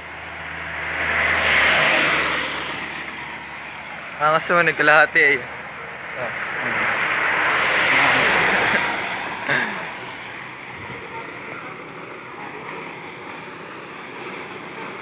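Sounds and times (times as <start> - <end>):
road and wind noise: 0.0 - 15.0
vehicle passing by: 0.2 - 15.0.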